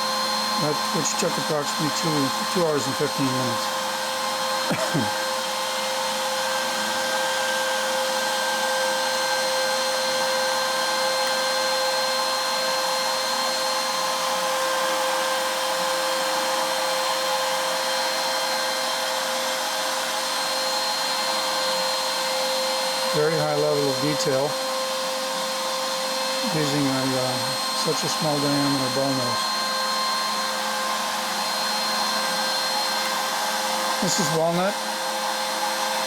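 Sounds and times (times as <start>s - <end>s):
cnc router spindle whine: 0.0s - 36.0s.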